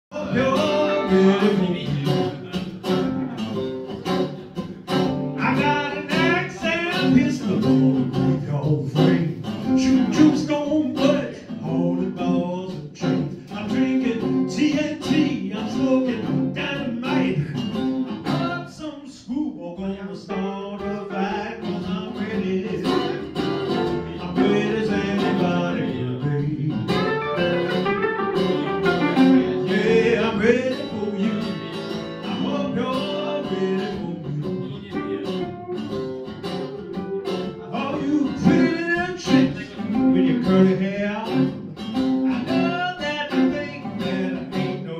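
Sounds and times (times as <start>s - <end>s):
person singing: 0.1s - 3.4s, 5.3s - 27.8s, 28.4s - 44.9s
acoustic guitars picked: 0.1s - 44.9s.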